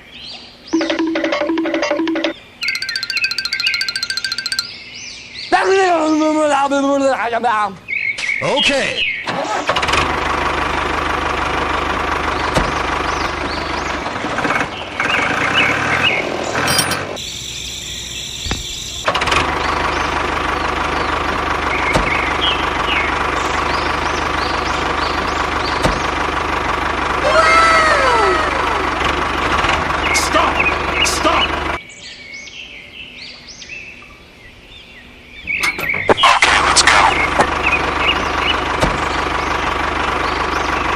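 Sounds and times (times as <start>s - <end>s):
birds chirping: 0.0s - 9.3s, 12.0s - 40.9s.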